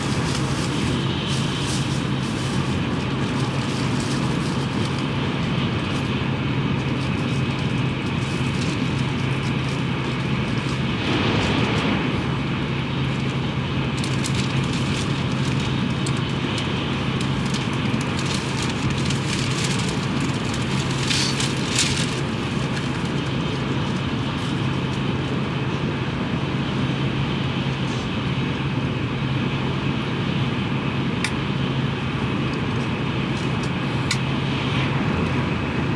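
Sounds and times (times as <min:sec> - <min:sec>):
rushing air and track noise: 0:00.0 - 0:28.4, 0:31.6 - 0:35.9
train interior low hum: 0:00.0 - 0:35.9.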